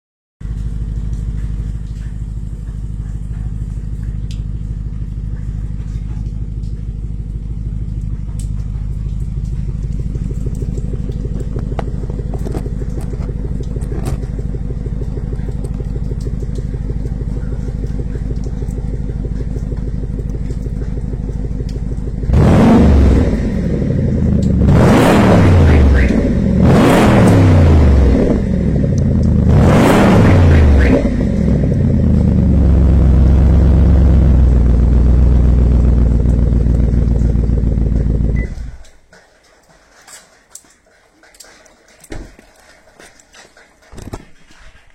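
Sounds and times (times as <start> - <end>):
engine idling and revving: 0.4 - 44.9.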